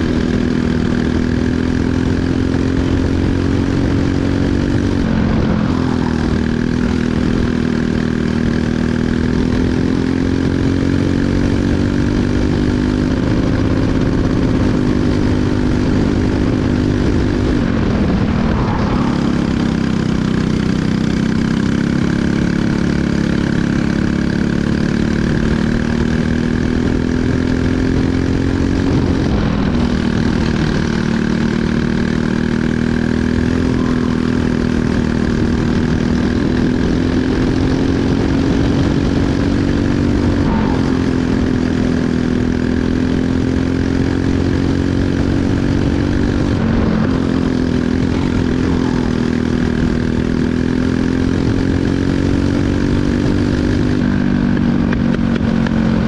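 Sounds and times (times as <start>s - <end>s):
kart engine racing: 0.0s - 56.0s.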